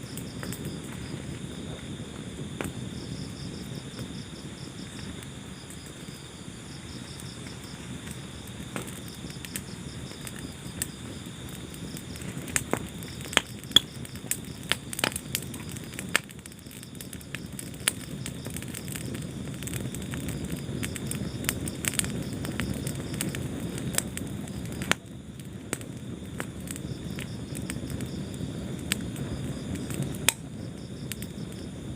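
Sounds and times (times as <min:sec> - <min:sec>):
crickets chirping: 0:00.0 - 0:31.9
wood fire crackling and popping: 0:00.0 - 0:31.9.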